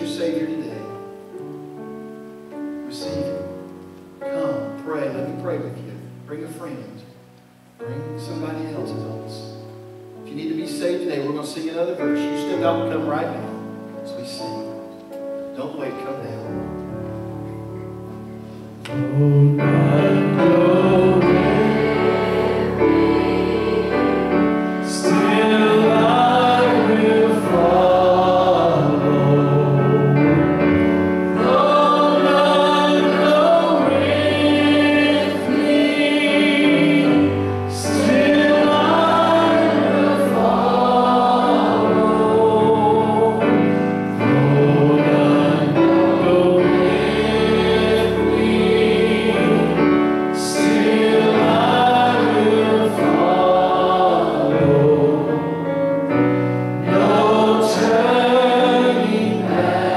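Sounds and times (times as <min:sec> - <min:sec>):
congregation singing a hymn: 0:00.0 - 0:07.1, 0:07.8 - 0:59.9
electric keyboard chords: 0:00.0 - 0:59.9.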